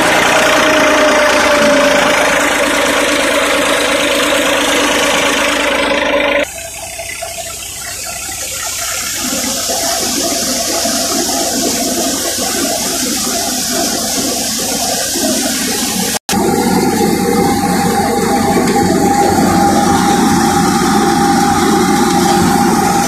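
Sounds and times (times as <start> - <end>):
thresher rushing noise: 0.0 - 6.5, 9.2 - 23.0
machine drone: 0.0 - 23.0.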